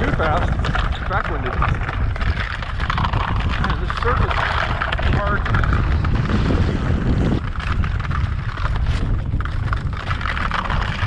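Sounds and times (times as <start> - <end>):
skis scraping on ice: 0.0 - 11.0
wind buffeting microphone: 0.0 - 11.0.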